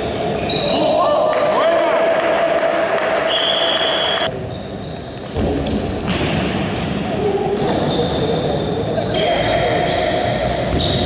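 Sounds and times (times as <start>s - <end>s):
indistinct voices in echoing hall: 0.0s - 11.0s.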